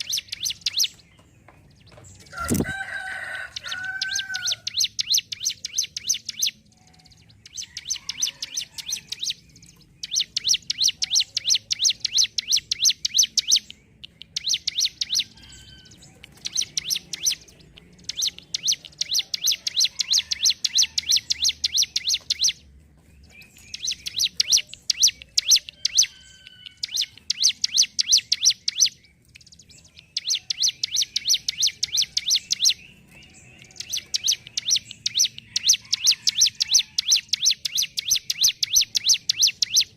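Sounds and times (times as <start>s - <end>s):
bird rattling trill song: 0.0s - 1.2s, 1.8s - 39.9s.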